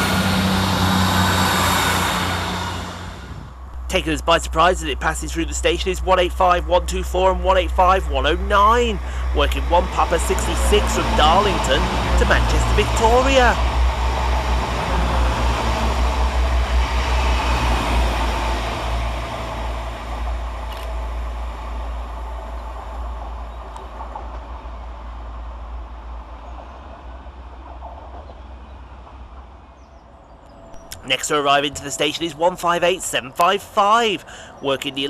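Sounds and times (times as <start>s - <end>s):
diesel train engine drone: 0.0s - 35.0s
wheel and rail noise: 0.0s - 35.0s.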